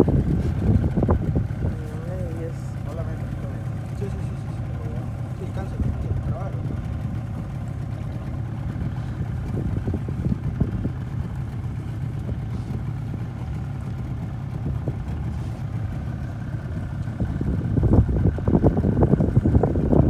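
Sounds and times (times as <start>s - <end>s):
outboard motor idling: 0.0s - 20.0s.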